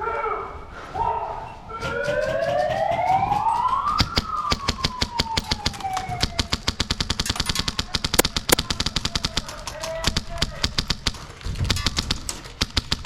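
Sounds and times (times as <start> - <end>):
rapid airsoft gunfire: 1.8 - 13.0.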